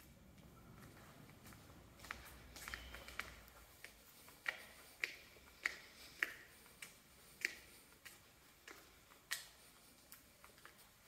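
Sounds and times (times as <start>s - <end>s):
footsteps on concrete stairs: 0.8s - 11.0s.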